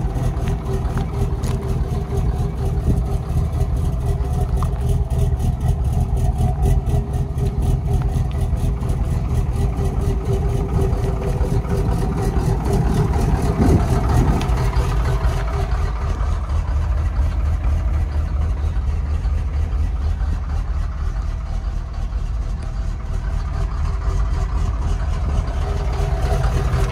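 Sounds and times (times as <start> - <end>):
truck engine idling with ticking: 0.0 - 26.9.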